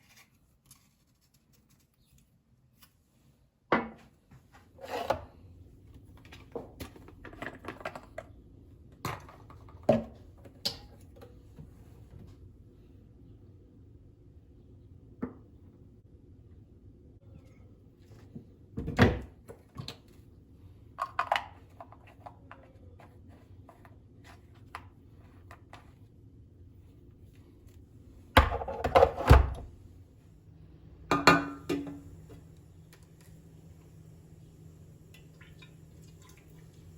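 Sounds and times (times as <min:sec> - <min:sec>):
faint steady hum: 0:00.1 - 0:36.9.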